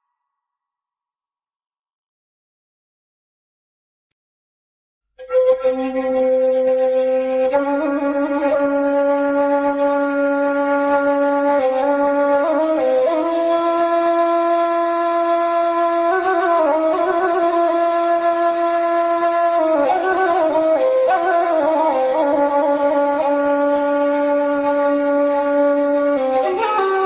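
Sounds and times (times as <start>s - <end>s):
woodwind melody in long notes: 5.2s - 27.0s.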